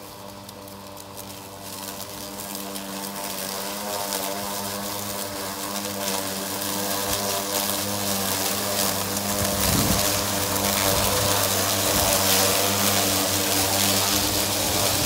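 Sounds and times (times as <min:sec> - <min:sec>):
electric mower motors humming: 0:00.0 - 0:15.0
mower blades cutting grass: 0:00.0 - 0:15.0.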